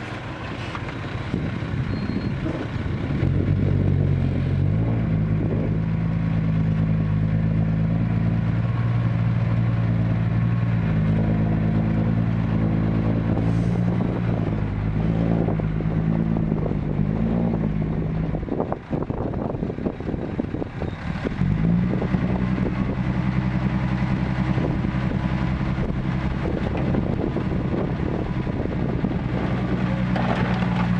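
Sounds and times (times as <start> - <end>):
diesel truck engine running: 0.0 - 30.9.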